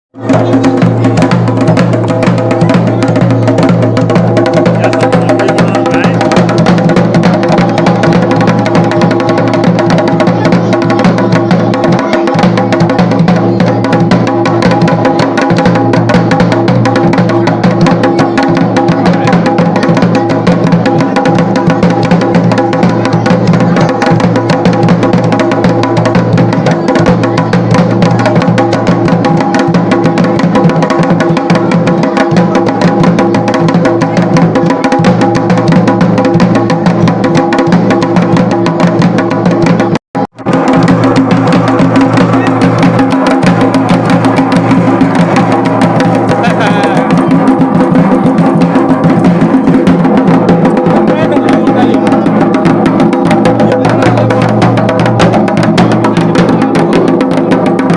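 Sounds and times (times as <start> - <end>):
drum beaten in fast rhythm: 0.2 - 57.9.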